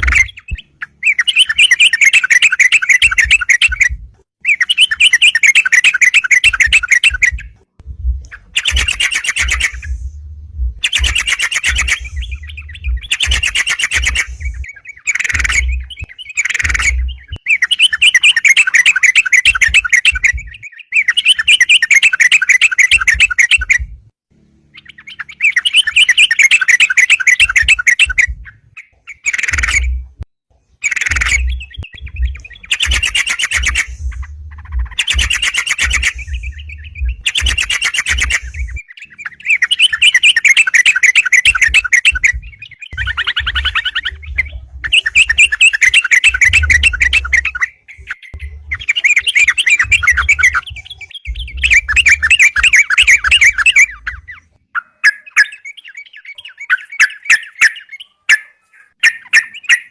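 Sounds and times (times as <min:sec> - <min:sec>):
bird bubbling chatter song: 0:00.0 - 0:23.9, 0:24.7 - 0:30.1, 0:30.8 - 0:59.9.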